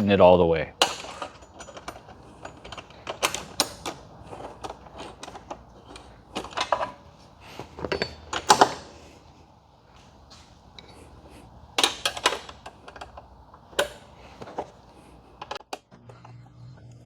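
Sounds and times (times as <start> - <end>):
hand tools clinking on steel bolts: 0.0 - 9.2, 10.3 - 15.6.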